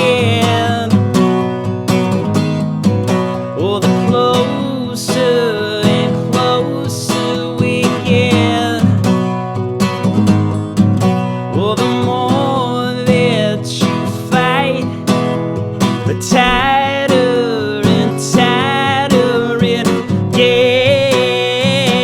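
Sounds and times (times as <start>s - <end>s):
acoustic guitar strummed: 0.0s - 22.0s.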